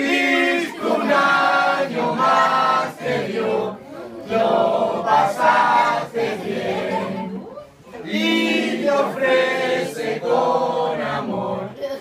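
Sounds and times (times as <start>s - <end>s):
group singing in chorus: 0.0s - 11.8s.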